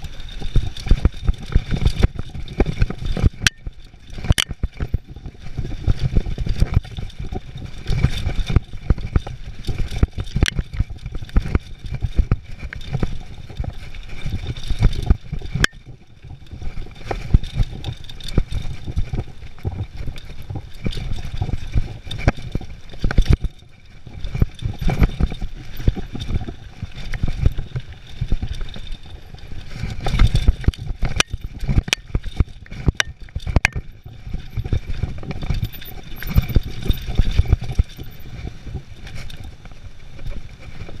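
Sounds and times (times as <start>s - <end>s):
bike rattling: 0.0s - 41.0s
sharp clacks on roots and rocks: 0.0s - 41.0s.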